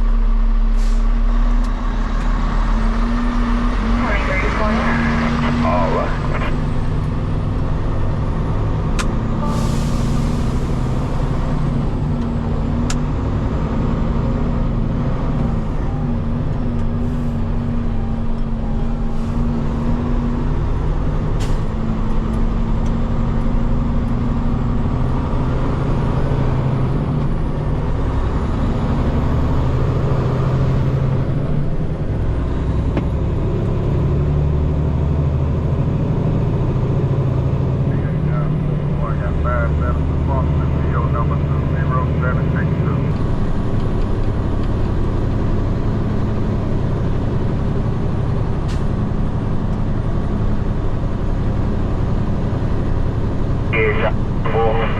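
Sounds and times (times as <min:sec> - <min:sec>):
diesel truck engine running: 0:00.0 - 0:54.9.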